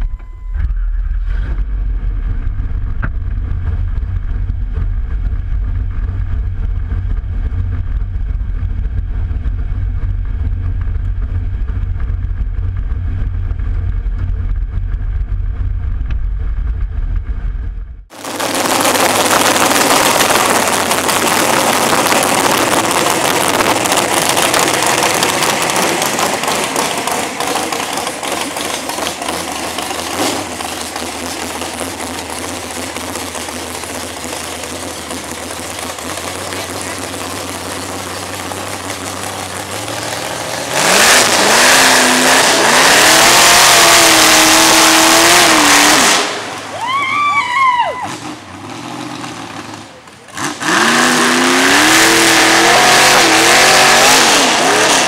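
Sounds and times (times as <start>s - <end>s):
truck engine rumbling: 0.0s - 55.0s.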